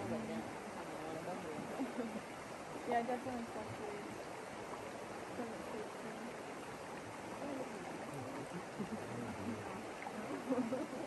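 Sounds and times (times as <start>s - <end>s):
faint voices talking: 0.0s - 4.2s, 5.2s - 6.5s, 7.2s - 11.0s
water flowing: 0.0s - 11.0s.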